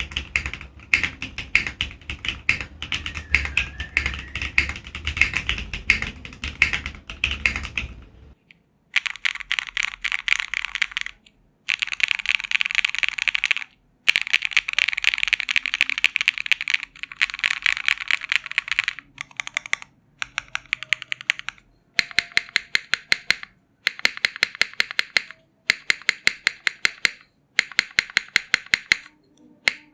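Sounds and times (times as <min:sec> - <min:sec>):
mechanical keyboard typing: 0:00.0 - 0:08.3, 0:09.0 - 0:29.9.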